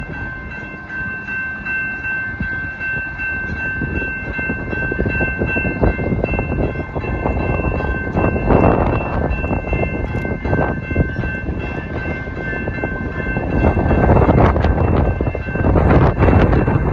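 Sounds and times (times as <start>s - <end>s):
passing train rumble and clatter: 0.0s - 16.9s.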